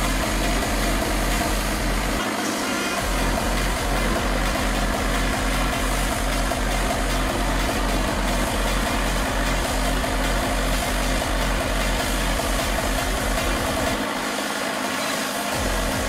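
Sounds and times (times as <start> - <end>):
diesel truck engine at low revs: 0.0 - 2.2, 2.9 - 14.8.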